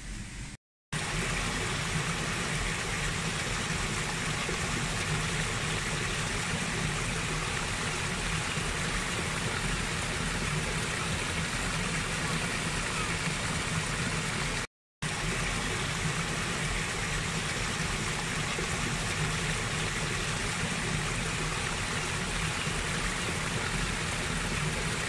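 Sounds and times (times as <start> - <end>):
stream splashing over boulders: 1.0 - 25.0.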